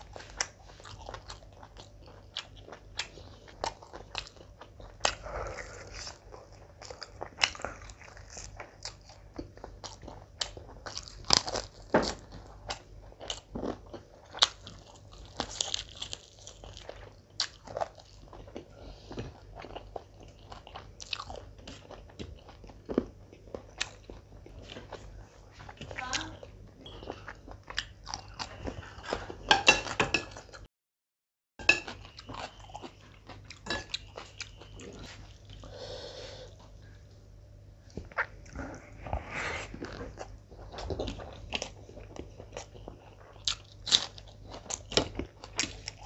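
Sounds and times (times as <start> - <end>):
person chewing and smacking: 0.0 - 30.7, 31.6 - 35.7, 37.9 - 39.0, 39.8 - 46.0.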